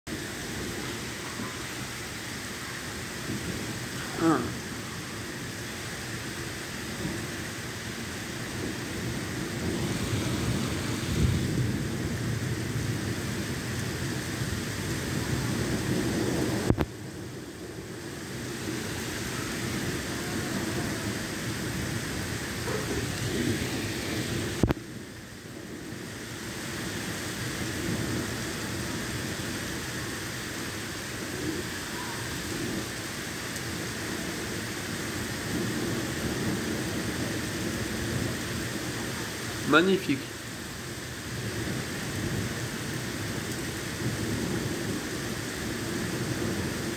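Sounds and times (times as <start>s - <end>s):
gusting wind: 0.1s - 46.9s
heavy rain pouring: 0.1s - 46.9s.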